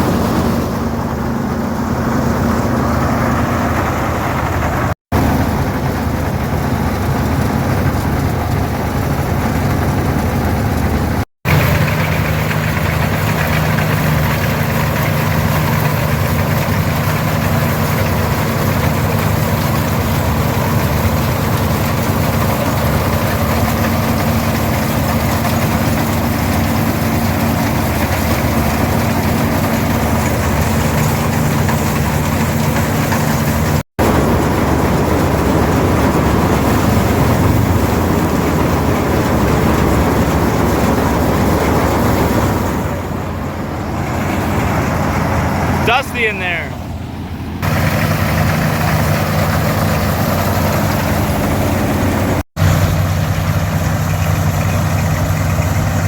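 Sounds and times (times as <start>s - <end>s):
combine threshing machinery drone: 0.0s - 56.0s
diesel tractor engine running: 0.0s - 56.0s.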